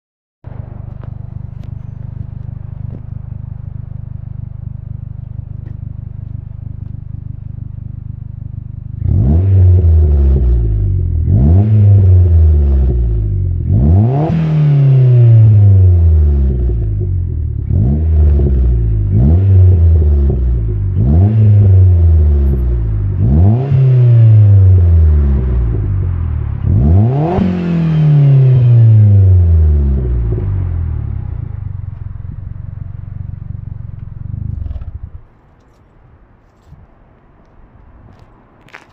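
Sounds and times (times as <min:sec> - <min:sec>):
car engine idling and revving: 0:00.4 - 0:38.9.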